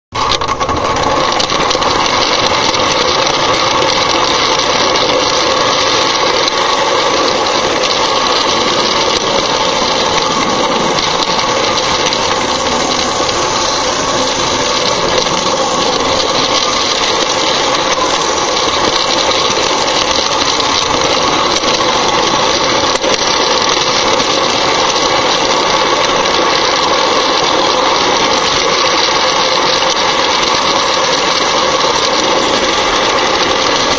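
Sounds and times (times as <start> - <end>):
toy train running on rails: 0.1 - 33.9.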